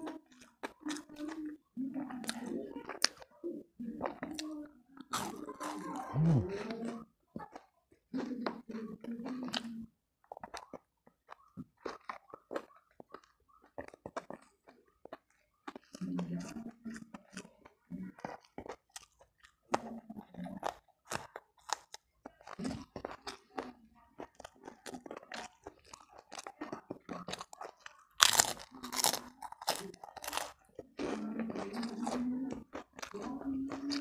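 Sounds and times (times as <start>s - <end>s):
crunching fried food: 4.0s - 34.0s.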